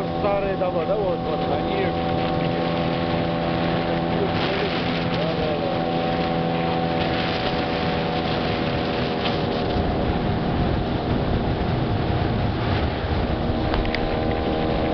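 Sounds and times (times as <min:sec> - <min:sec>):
motorboat engine running: 0:00.0 - 0:14.9
water noise: 0:00.0 - 0:14.9
wind: 0:00.0 - 0:14.9.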